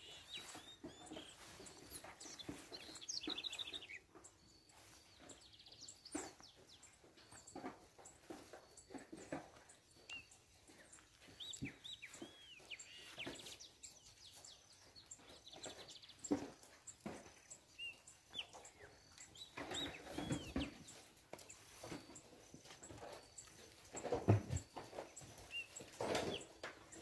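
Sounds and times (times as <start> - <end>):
birds whistling chirps: 0.0 - 7.7, 8.8 - 27.0.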